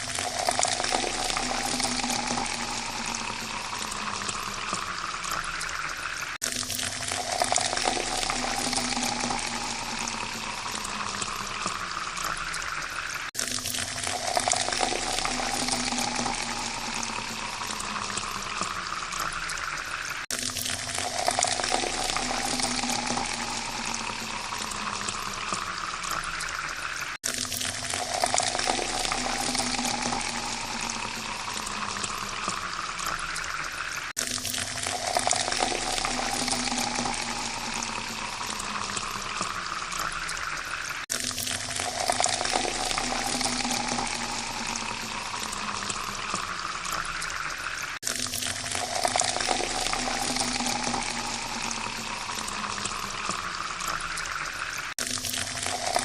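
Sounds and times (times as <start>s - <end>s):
water pouring into a glass: 0.0s - 56.0s.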